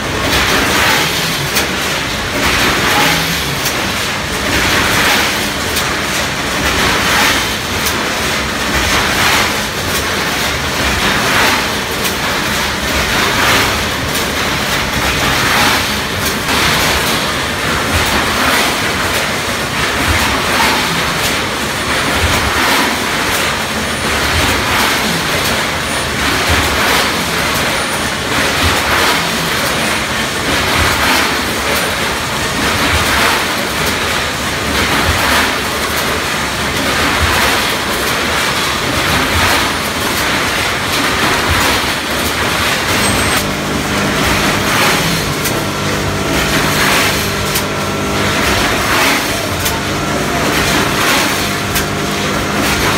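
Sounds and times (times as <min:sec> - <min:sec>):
bag filling machine running: 0:00.0 - 0:52.9.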